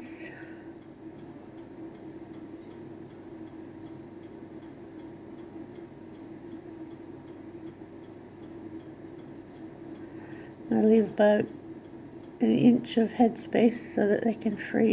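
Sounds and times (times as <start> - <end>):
low hum: 0.0 - 14.9
faint rapid ticking: 0.3 - 14.7.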